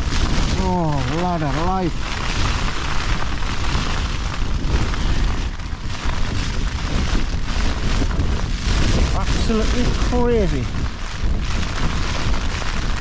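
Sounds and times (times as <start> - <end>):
heavy rain on a tent: 0.0 - 13.0
wind gusts buffeting tent: 0.0 - 13.0.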